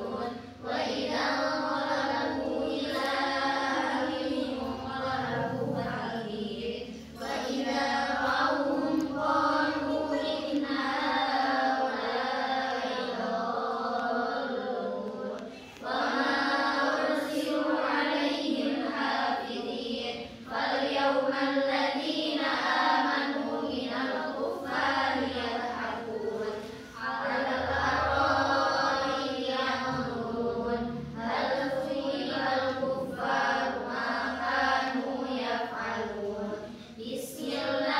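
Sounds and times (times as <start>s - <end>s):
girls chanting together: 0.0s - 37.9s.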